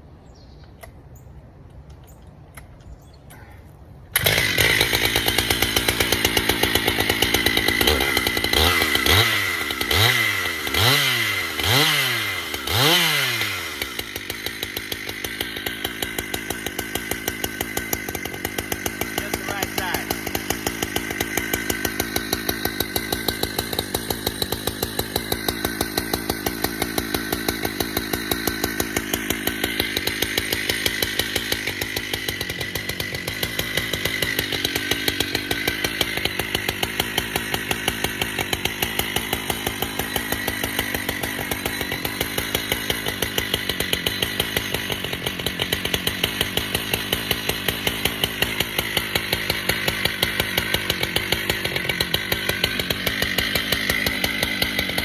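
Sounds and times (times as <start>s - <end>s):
chainsaw cutting through log: 3.3s - 55.0s.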